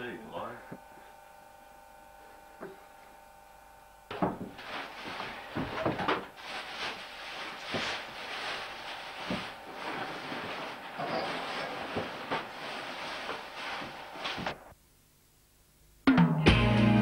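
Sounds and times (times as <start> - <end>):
faint steady hum: 0.0 - 16.1.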